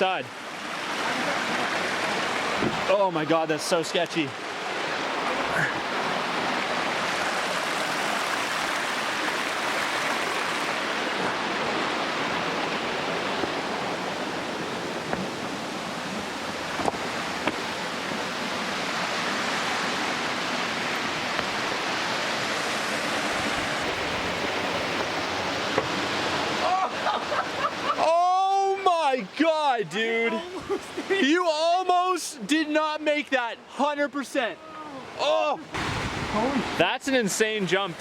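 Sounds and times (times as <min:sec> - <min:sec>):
waterfall and stream rushing: 0:00.0 - 0:38.0.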